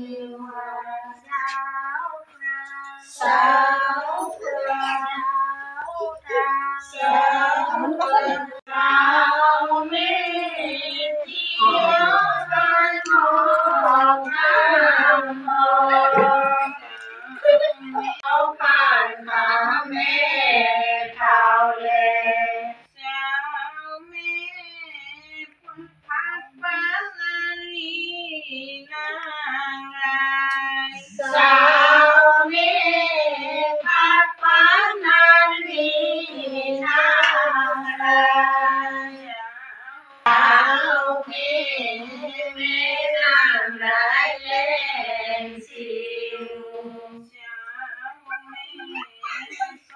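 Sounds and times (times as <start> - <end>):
women chanting unaccompanied: 0.0 - 49.9
women singing hymns: 0.0 - 49.9.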